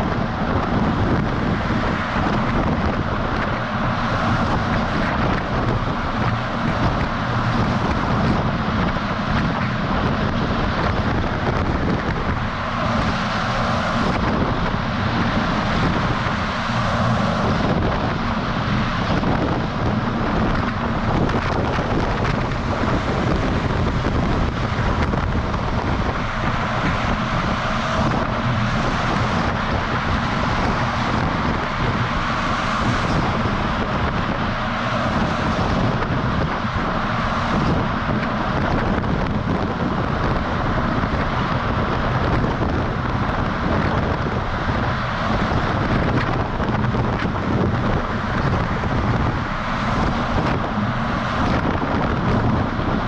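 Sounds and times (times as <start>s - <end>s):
truck diesel engine: 0.0s - 53.0s
wind rushing over microphone: 0.0s - 53.0s.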